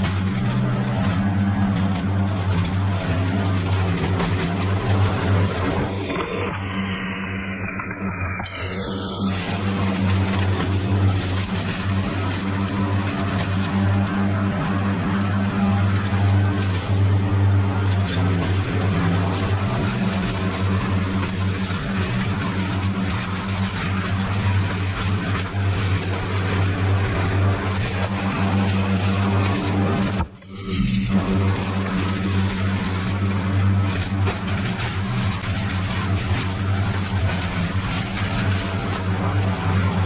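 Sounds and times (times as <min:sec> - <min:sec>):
lawn mower engine running: 0:00.0 - 0:40.0.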